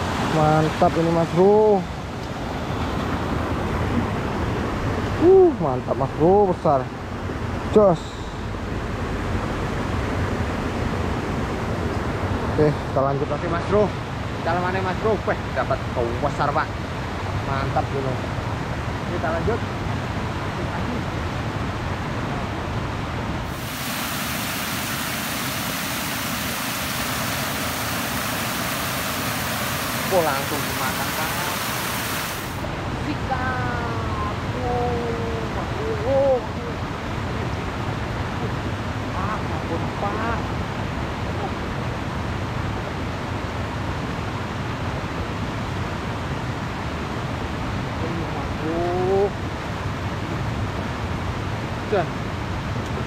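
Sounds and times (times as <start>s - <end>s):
outdoor background noise: 0.0s - 53.0s.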